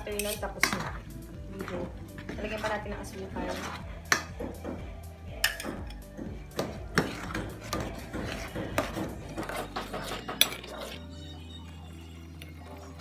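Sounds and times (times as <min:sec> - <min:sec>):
metal ladle scraping a pot: 0:00.0 - 0:11.8.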